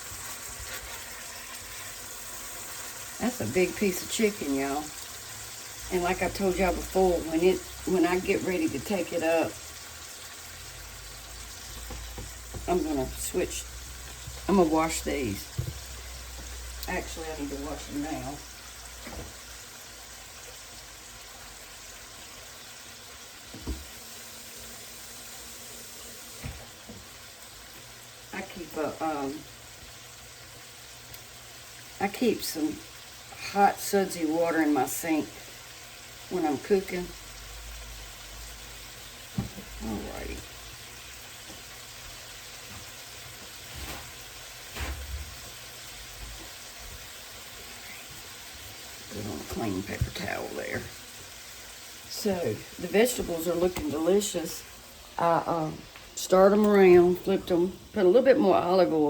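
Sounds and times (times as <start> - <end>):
chicken sizzling in a skillet: 0.0 - 59.0.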